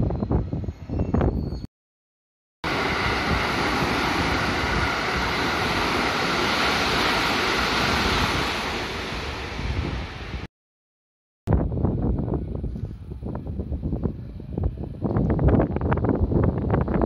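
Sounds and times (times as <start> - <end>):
electric train passing at speed: 0.0 - 1.7, 2.6 - 10.5, 11.6 - 17.0.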